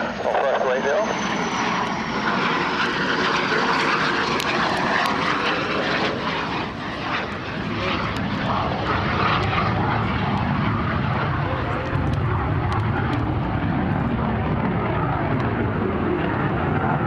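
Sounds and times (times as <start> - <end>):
jet engine rushing noise: 0.0 - 17.0.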